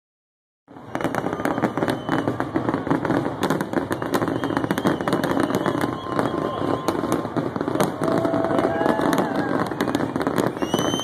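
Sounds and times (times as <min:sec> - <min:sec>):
fireworks crackling pops: 0:00.7 - 0:11.0.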